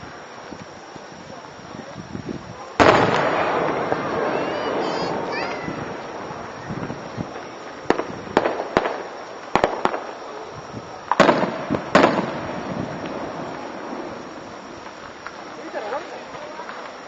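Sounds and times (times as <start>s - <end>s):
fireworks bangs and booms: 0.0s - 17.0s.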